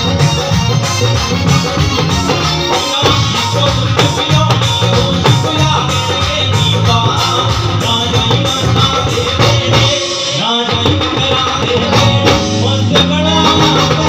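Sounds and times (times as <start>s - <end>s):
live band through speakers: 0.0s - 14.0s
man singing: 2.4s - 14.0s.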